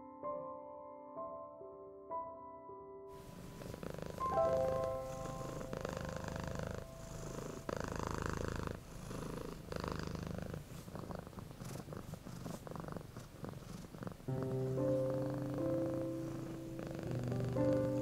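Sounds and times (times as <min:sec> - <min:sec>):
cat purring: 0:03.2 - 0:18.0.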